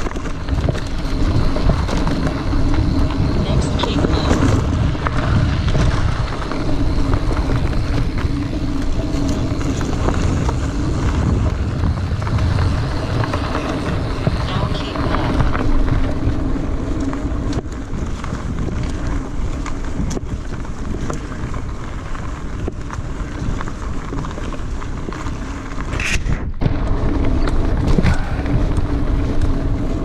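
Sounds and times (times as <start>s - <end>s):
bike rattling clicks: 0.0s - 30.0s
tyres rumbling on dirt: 0.0s - 30.0s
wind buffeting microphone: 0.0s - 30.0s.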